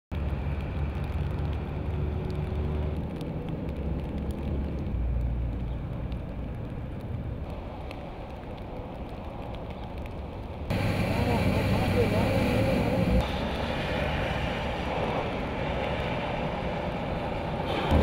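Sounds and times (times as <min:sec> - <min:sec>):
motor vehicle rumbling: 0:00.1 - 0:18.0.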